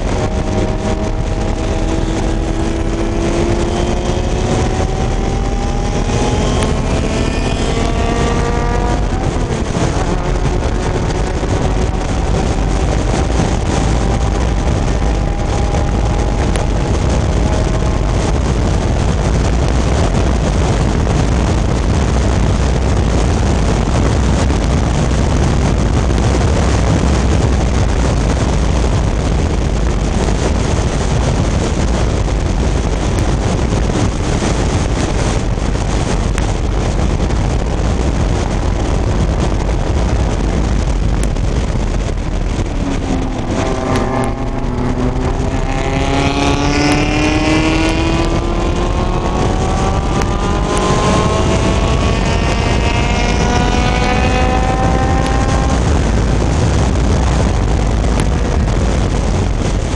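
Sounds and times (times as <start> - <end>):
race car engine revving: 0.0 - 59.9
wind noise on microphone: 0.0 - 59.9.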